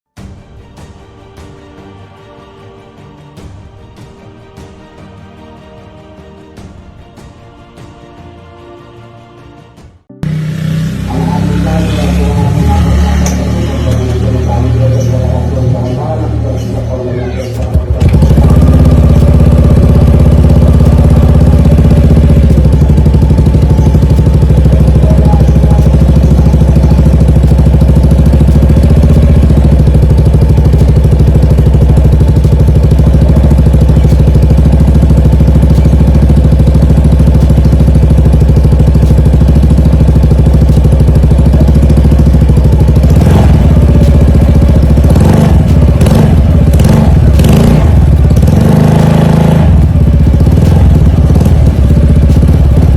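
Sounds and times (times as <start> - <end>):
scooter engine idling: 10.2 - 52.9
scooter engine revving: 10.2 - 52.9.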